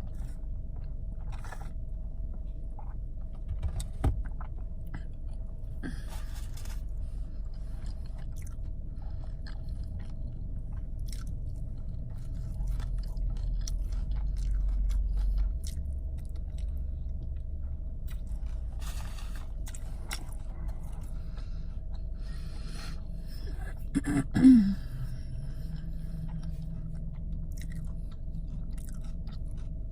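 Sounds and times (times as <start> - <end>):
low hum: 0.0 - 29.9
person chewing and biting: 4.3 - 23.9, 24.6 - 29.9.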